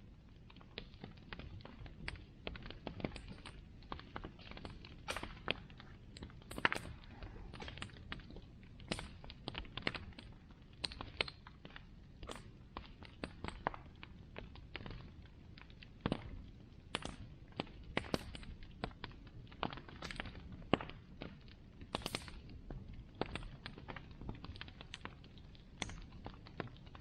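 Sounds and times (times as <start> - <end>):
bonfire crackling: 0.0 - 27.0.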